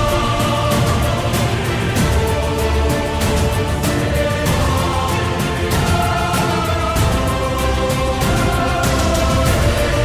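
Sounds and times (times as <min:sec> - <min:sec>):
music with sustained notes and beat: 0:00.0 - 0:10.0.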